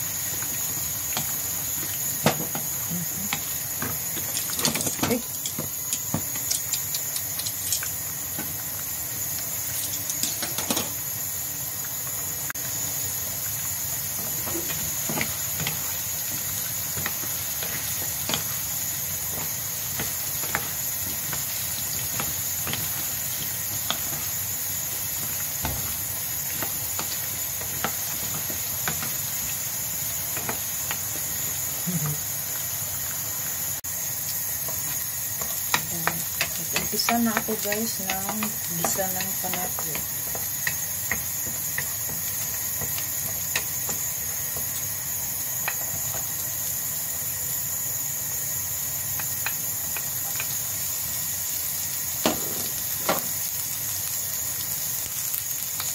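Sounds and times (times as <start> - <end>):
vegetables sizzling in oil: 0.0 - 55.9.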